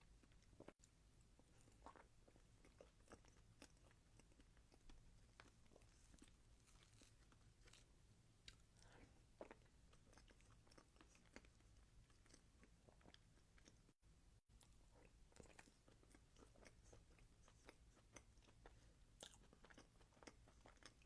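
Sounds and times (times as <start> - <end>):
chewing cake: 0.0 - 21.0.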